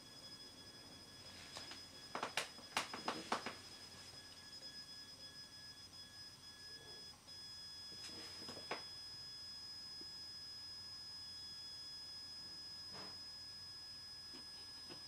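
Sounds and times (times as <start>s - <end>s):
stepper motor whine: 0.0s - 15.0s.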